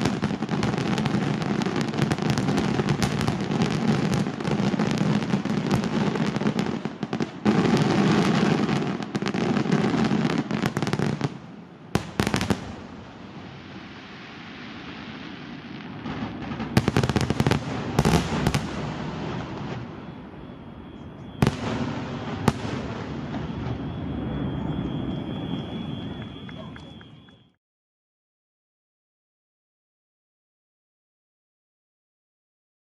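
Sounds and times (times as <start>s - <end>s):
fireworks bangs and crackling: 0.0s - 27.6s.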